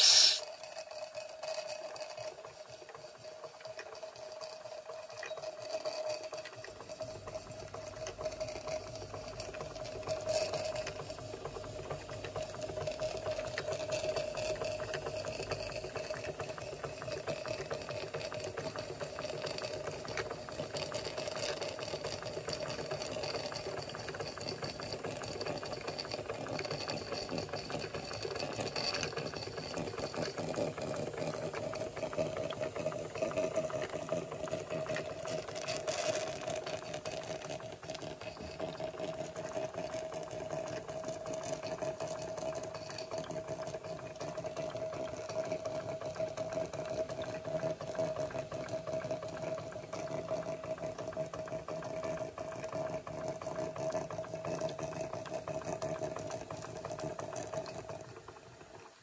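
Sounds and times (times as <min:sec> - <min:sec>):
model steam engine clatter: 0:00.0 - 0:59.0.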